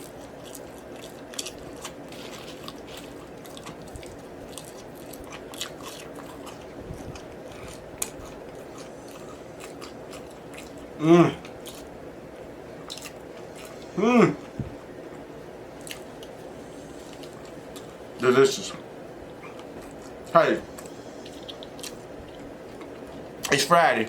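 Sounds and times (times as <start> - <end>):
close chewing: 0.0 - 12.0, 12.8 - 18.0, 19.3 - 23.6.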